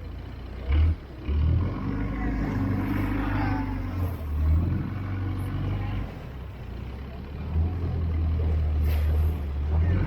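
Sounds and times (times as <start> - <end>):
boat engine running: 1.9 - 10.0.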